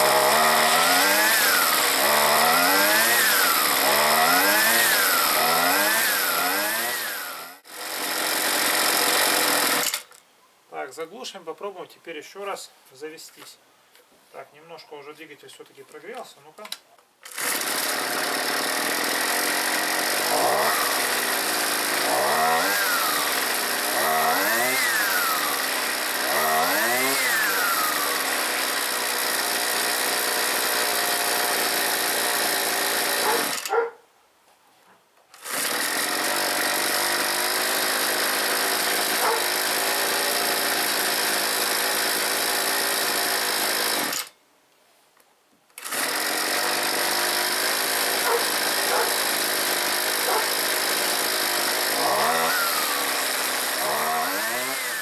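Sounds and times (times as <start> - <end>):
string trimmer engine revving and idling: 0.0 - 10.0, 17.2 - 33.7, 35.4 - 44.3, 45.8 - 55.0.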